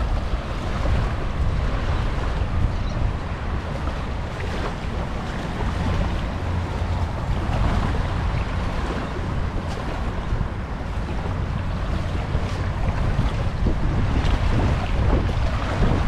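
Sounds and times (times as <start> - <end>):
waves washing on beach: 0.0 - 16.0
wind buffeting microphone: 0.0 - 16.0.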